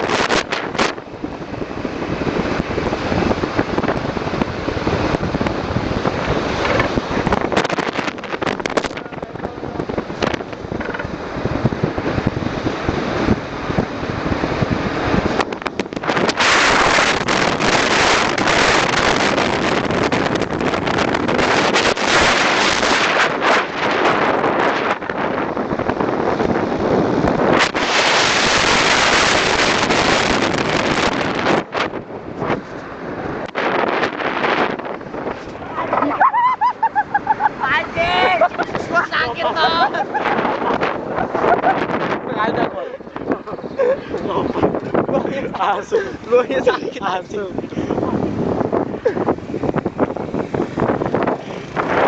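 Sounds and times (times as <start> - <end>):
motorcycle running: 0.0 - 41.8, 48.0 - 52.0
wind on microphone: 0.0 - 52.0.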